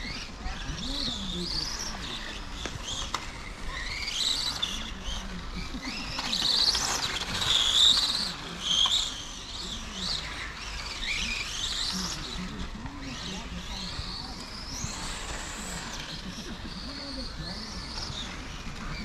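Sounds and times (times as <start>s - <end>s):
electric model car motor whining: 0.0s - 19.0s.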